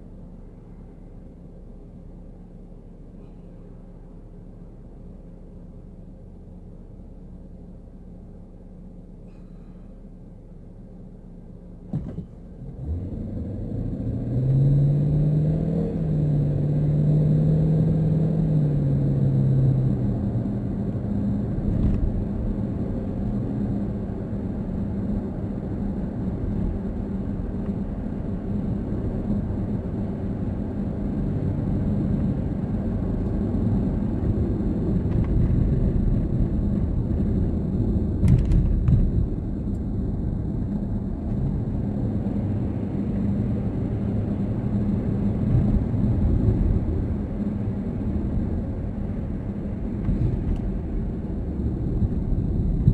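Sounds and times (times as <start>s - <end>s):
car engine: 0.0s - 52.9s
road rumble: 0.0s - 52.9s.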